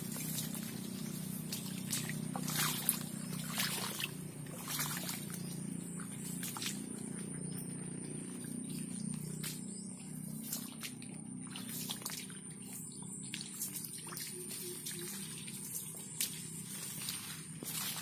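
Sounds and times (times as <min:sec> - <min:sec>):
footsteps through wet grass: 0:00.0 - 0:18.0.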